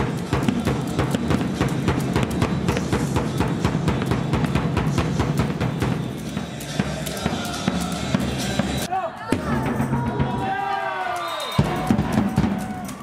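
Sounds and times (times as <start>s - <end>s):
fast dense drumming: 0.0s - 10.4s.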